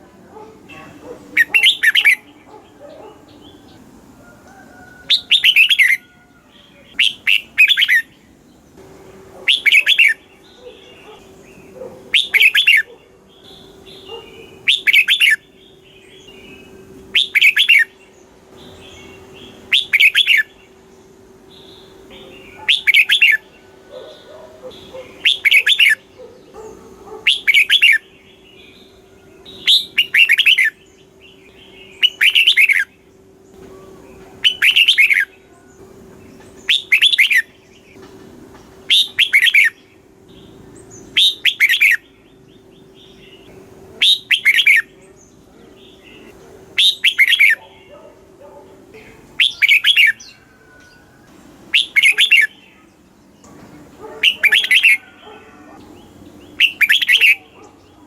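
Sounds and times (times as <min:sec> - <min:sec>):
bird singing chirping phrases: 0:00.0 - 0:58.0.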